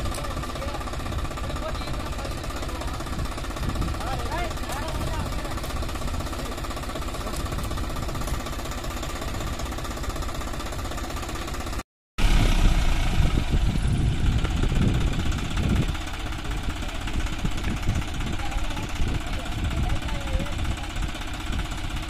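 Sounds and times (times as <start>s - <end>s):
diesel tractor engines running hard: 0.0s - 22.0s.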